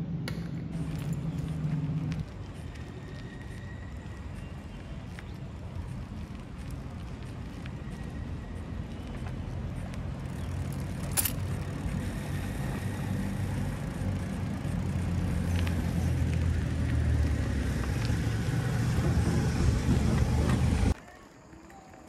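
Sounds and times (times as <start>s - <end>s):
bicycle tyres rolling on asphalt: 0.5s - 22.0s.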